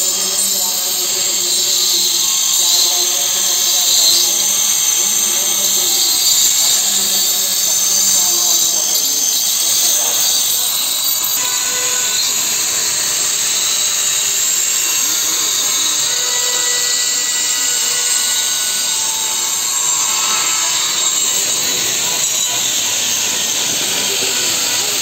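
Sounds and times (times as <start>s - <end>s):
power tools grinding stone: 0.0s - 25.0s.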